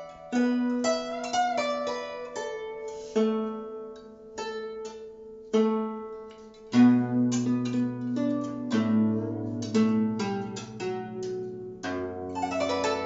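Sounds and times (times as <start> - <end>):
plucked zither notes: 0.0 - 13.0.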